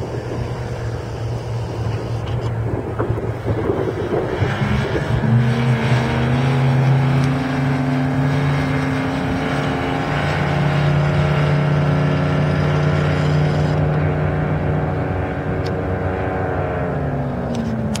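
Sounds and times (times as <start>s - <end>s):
boat outboard engine at speed: 0.0s - 18.0s.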